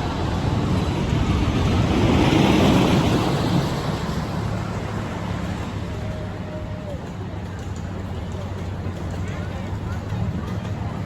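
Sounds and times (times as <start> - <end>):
small train rumbling past: 0.0 - 11.0.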